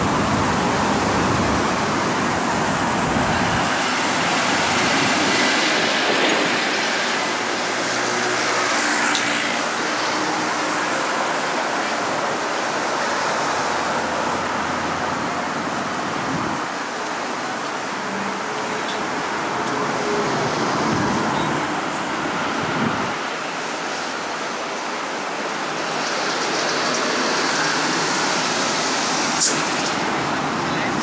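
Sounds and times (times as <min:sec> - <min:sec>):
hiss of passing cars: 0:00.0 - 0:31.0
low traffic rumble: 0:00.0 - 0:31.0.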